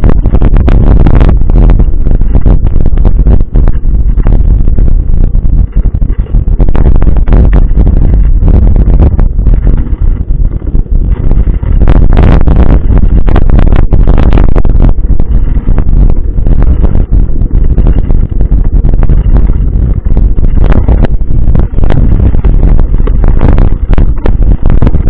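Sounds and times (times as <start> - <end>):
bike tyre and road noise: 0.0 - 25.0
wind rumble on microphone: 0.0 - 25.0.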